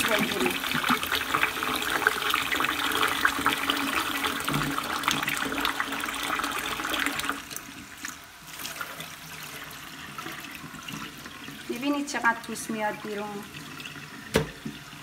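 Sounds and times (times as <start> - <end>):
tap water running into pot: 0.0 - 15.0.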